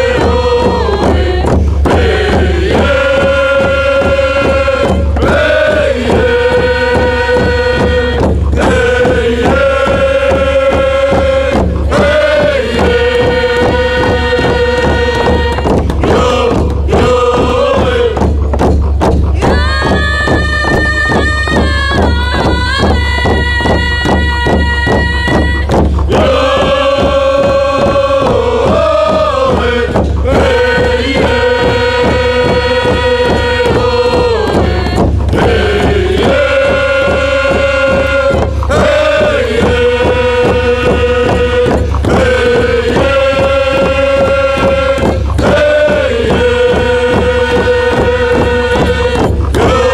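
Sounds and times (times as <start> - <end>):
chanting voices holding long notes: 0.0 - 49.9
steady drum beat: 0.0 - 49.9.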